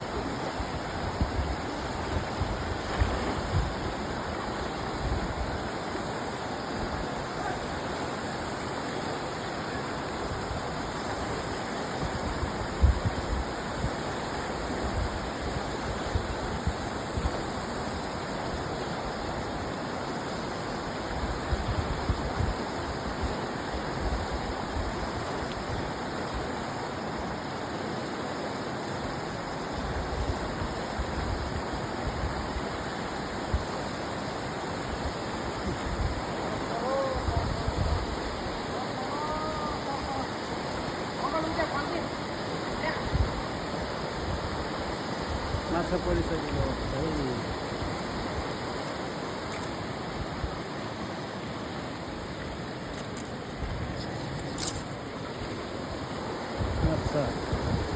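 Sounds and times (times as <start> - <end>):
flowing river water: 0.0 - 57.9.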